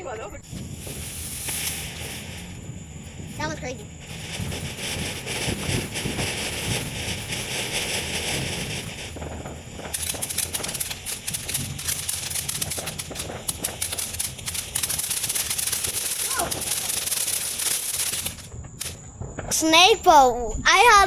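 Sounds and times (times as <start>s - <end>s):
firework hissing: 0.0s - 20.1s
firework crackling: 0.0s - 21.0s.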